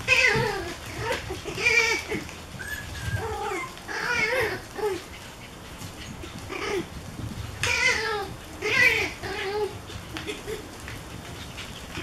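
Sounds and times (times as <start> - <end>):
puppies yipping and whining: 0.0 - 12.0.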